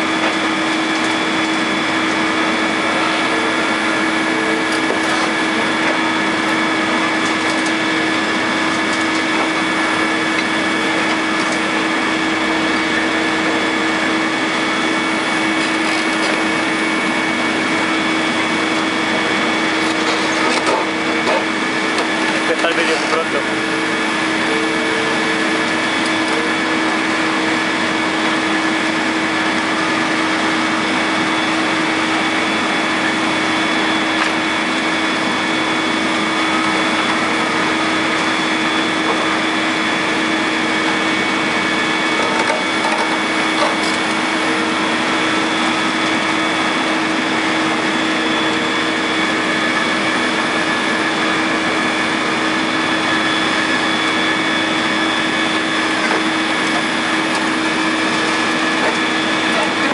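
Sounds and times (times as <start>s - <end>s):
excavator engine and hydraulics whine: 0.0s - 59.9s.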